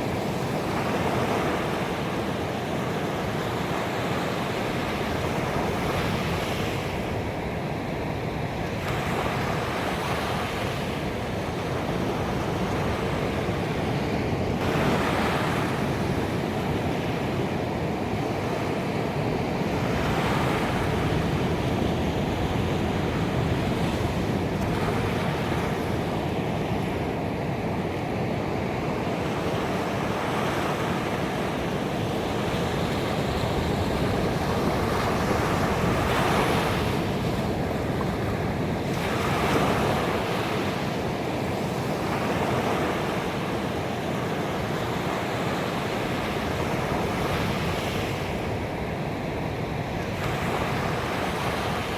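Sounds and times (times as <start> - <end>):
ocean surf breaking on beach: 0.0 - 51.9.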